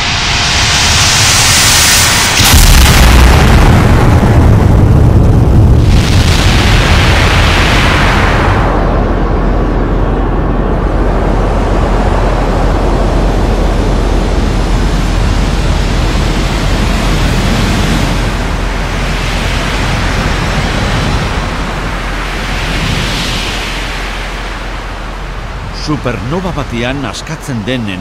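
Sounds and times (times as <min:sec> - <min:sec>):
deep rumble: 0:00.0 - 0:28.0.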